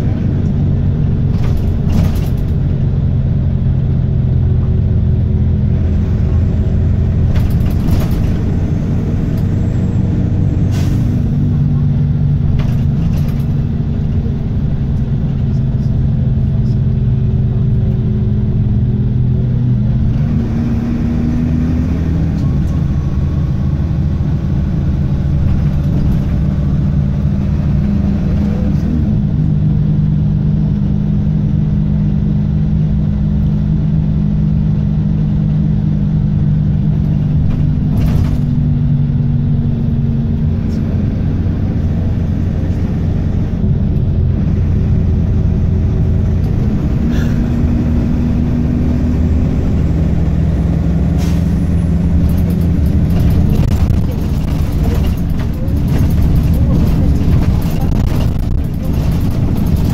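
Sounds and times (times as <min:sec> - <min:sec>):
bus diesel engine droning: 0:00.0 - 0:59.9
tyre and road noise: 0:00.0 - 0:59.9.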